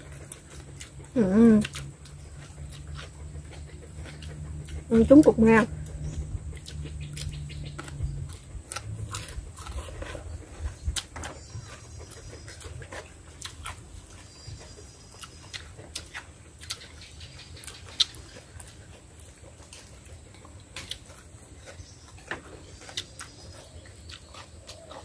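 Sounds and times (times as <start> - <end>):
people chewing: 0.0 - 25.0.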